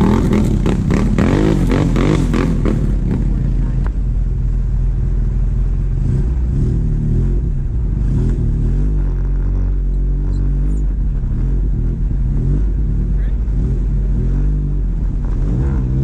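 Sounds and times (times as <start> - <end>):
atv engine idling and revving: 0.0 - 16.0.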